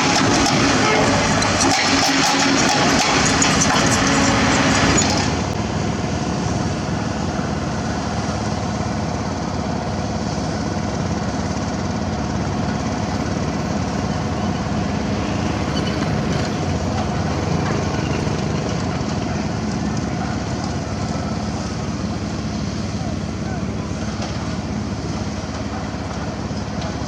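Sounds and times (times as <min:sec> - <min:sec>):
heavy machinery diesel engine: 0:00.0 - 0:27.0.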